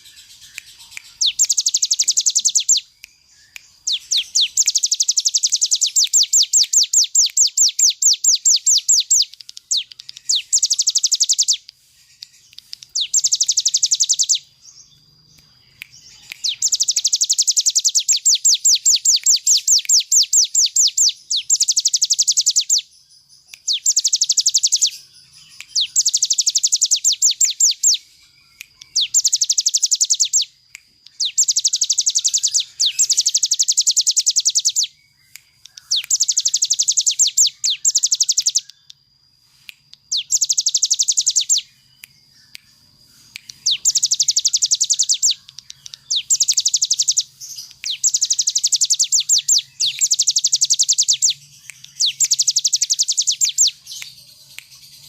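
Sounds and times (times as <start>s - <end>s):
bird singing rattling trills: 0.0s - 39.0s, 40.1s - 55.0s.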